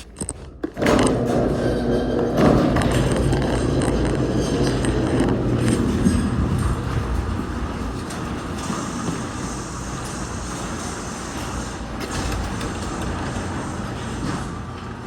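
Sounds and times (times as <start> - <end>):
garage door mechanical rumble: 0.0 - 15.0.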